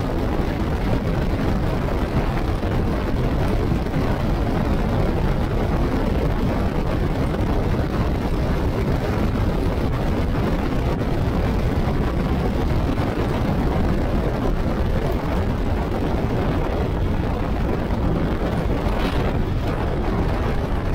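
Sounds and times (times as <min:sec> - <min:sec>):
motorcycle road noise on wet road: 0:00.0 - 0:20.9
wind rush on microphone: 0:00.0 - 0:20.9.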